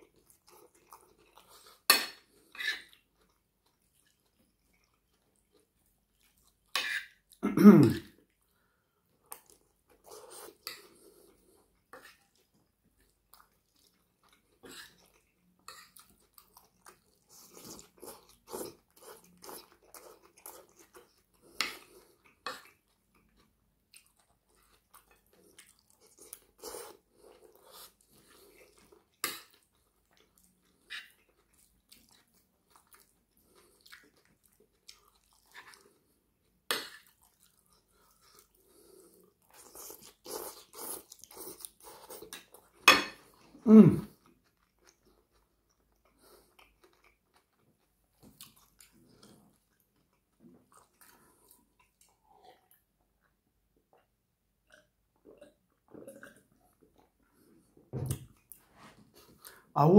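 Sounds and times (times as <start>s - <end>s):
chewing and crunching: 0.0s - 7.4s, 8.1s - 59.7s.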